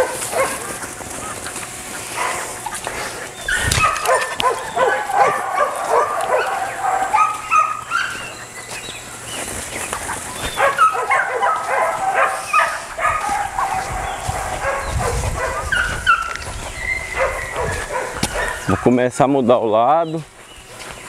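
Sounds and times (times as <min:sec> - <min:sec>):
dogs barking and yipping: 0:00.0 - 0:21.0.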